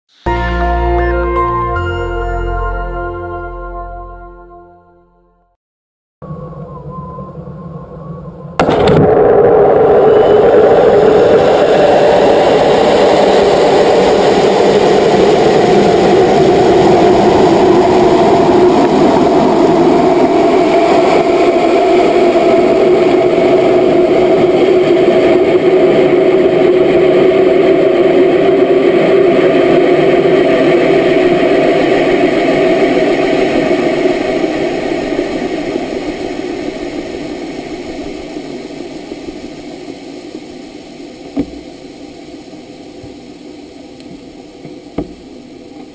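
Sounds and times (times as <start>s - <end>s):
rocket motor roaring: 6.2s - 45.9s.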